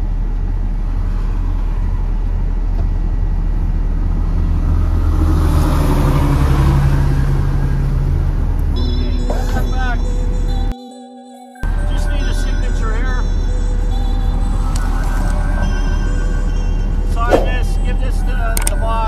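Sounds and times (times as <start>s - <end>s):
truck engine rumble: 0.0s - 10.8s, 11.6s - 19.0s.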